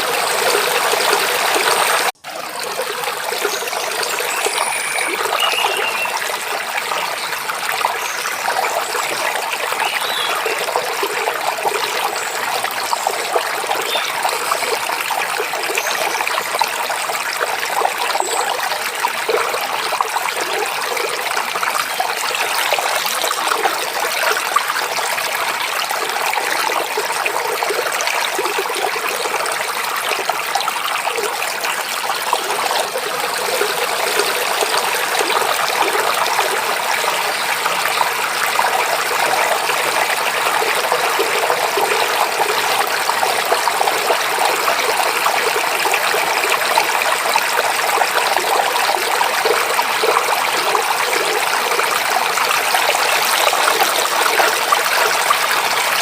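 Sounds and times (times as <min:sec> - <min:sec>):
stream babbling and trickling: 0:00.0 - 0:56.0.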